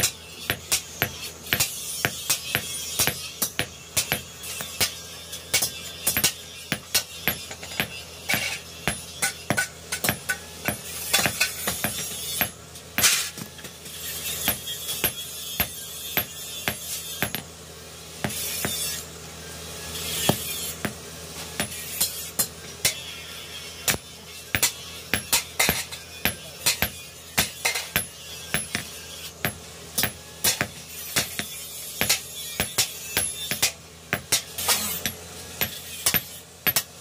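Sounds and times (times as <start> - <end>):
hammer clinking on hot iron: 0.0 - 17.5, 23.8 - 37.0.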